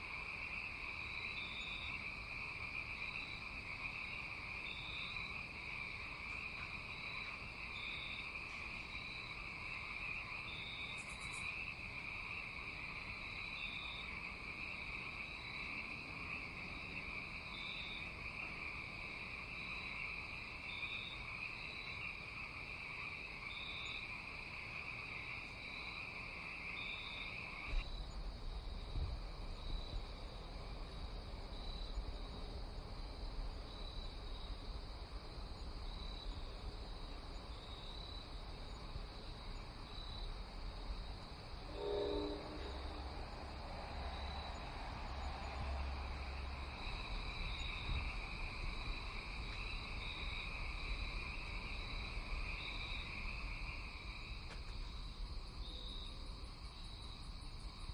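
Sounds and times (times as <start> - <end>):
insects chirping: 0.0 - 57.9
insects trilling: 0.0 - 57.9.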